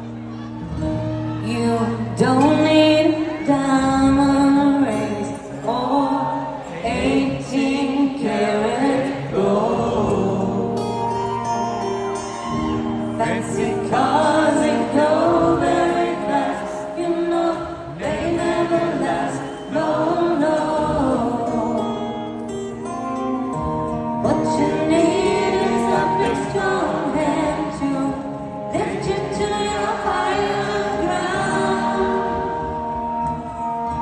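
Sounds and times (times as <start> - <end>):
acoustic guitar: 0.0 - 34.0
woman singing: 1.4 - 11.0, 13.2 - 22.2, 24.2 - 32.9
crowd singing along: 1.4 - 34.0.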